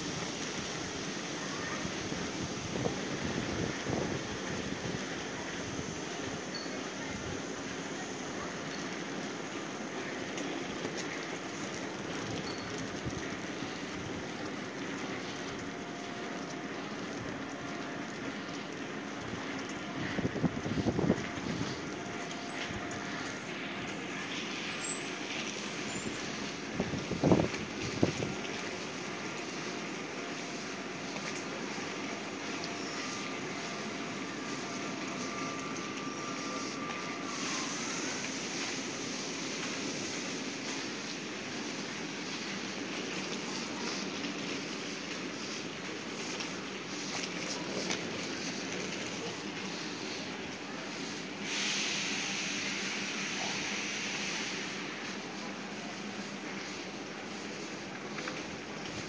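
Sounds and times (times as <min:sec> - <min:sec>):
train station rumble and hiss: 0:00.0 - 0:59.0
faint high whine: 0:00.7 - 0:11.7, 0:12.3 - 0:59.0.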